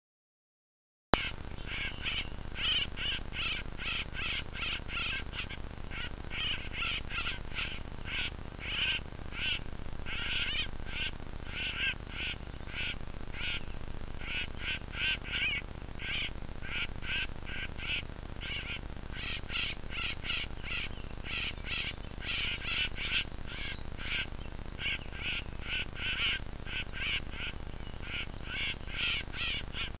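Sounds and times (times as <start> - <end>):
grackles calling: 1.2 - 30.0.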